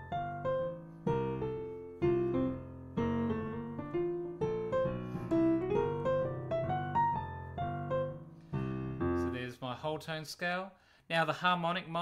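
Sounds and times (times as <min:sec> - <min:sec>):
piano playing jazz chords and scale: 0:00.0 - 0:09.8.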